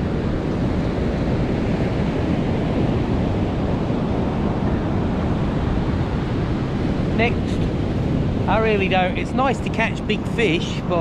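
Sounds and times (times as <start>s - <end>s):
ocean waves breaking on beach: 0.0s - 11.0s
wind on microphone: 0.0s - 11.0s.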